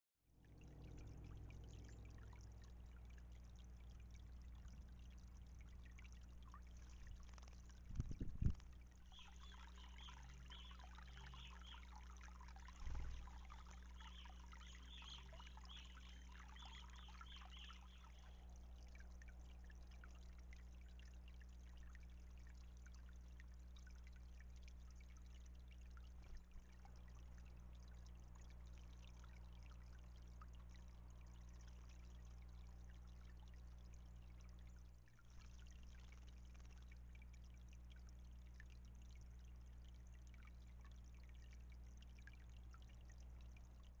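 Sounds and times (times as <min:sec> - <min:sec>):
steady low hum: 0:00.3 - 0:44.0
water trickling over stones: 0:00.3 - 0:44.0.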